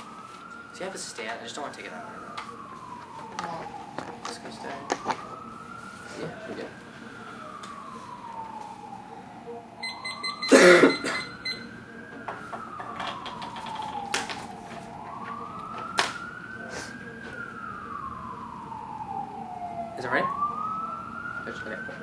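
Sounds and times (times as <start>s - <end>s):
emergency vehicle siren wailing: 0.0s - 22.0s.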